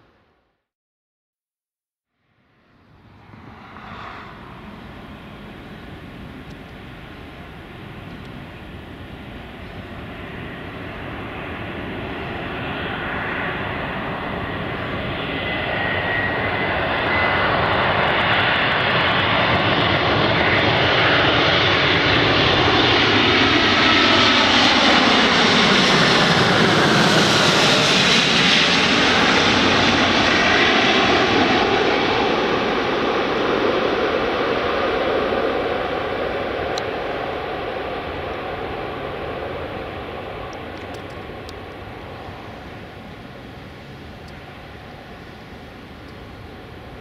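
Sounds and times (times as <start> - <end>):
jet airliner passing overhead: 2.2 - 47.0.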